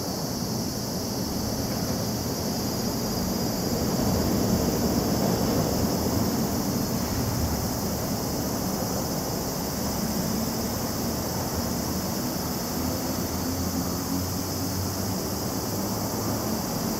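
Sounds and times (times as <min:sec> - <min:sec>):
cicadas buzzing: 0:00.0 - 0:16.9.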